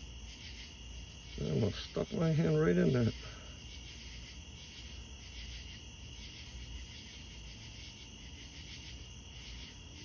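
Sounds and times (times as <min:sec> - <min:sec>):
night insects trilling: 0:00.0 - 0:10.0.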